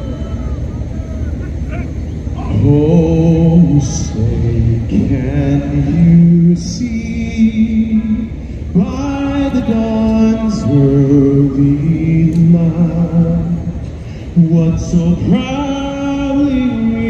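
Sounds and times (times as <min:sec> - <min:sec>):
person singing over loudspeakers: 0:02.4 - 0:17.0.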